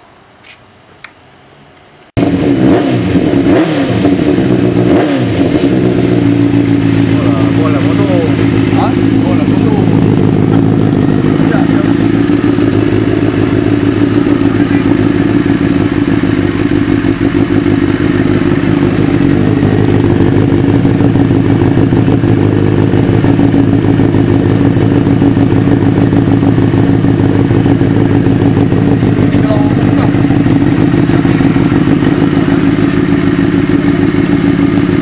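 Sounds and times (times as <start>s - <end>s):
motorcycle engine idling: 4.0s - 35.0s.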